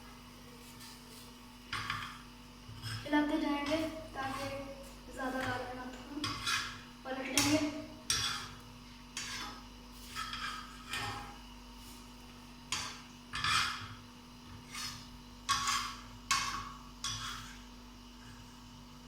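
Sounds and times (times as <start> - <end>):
utensil scraping hot griddle: 0.5 - 18.5.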